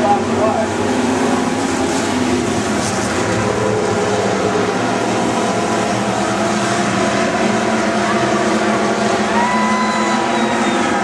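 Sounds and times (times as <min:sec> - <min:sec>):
stock car engines racing: 0:00.0 - 0:11.0.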